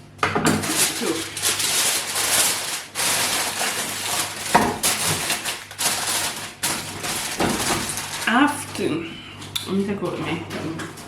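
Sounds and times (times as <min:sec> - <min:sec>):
food rustling and scraping: 0:00.4 - 0:09.5.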